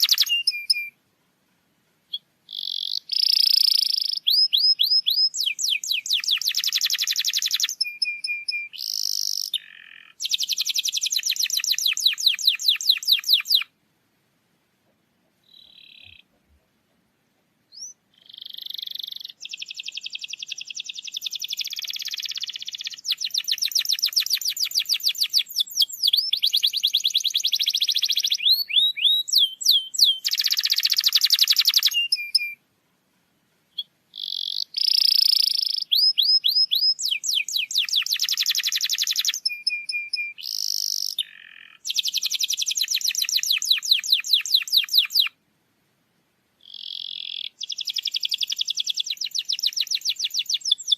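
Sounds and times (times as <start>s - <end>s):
canary singing trills: 0.0s - 1.0s, 2.1s - 13.7s, 15.4s - 16.7s, 17.7s - 32.6s, 33.7s - 45.4s, 46.6s - 50.9s.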